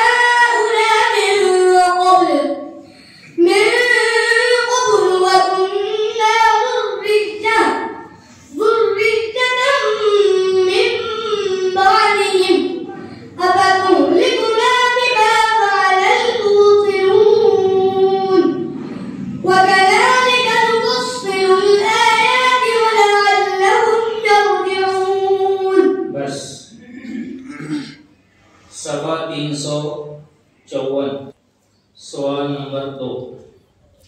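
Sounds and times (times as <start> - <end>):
boy chanting into a microphone: 0.0 - 28.0.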